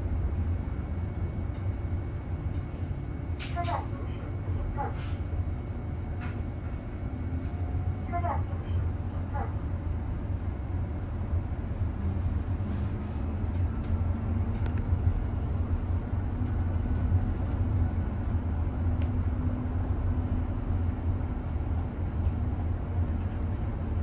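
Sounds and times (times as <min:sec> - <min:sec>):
bus road rumble from inside: 0:00.0 - 0:24.0.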